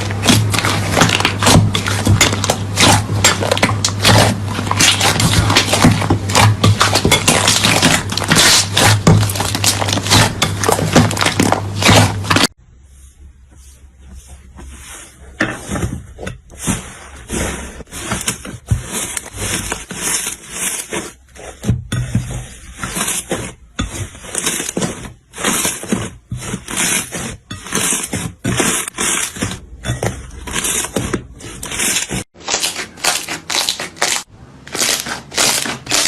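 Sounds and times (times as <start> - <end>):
slime crackling and squelching: 0.0 - 12.6, 13.7 - 36.0.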